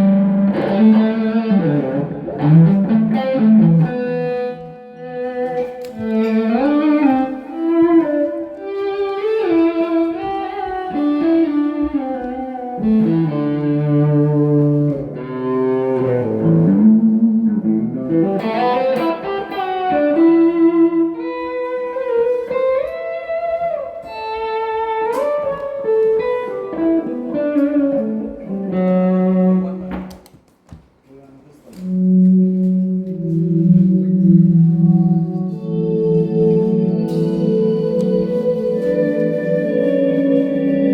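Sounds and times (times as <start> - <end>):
electric guitar solo: 0.0 - 30.3, 31.8 - 40.9.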